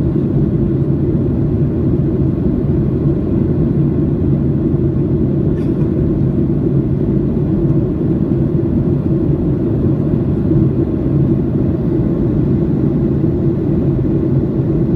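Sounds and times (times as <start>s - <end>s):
airplane cabin engine rumble: 0.0s - 14.9s.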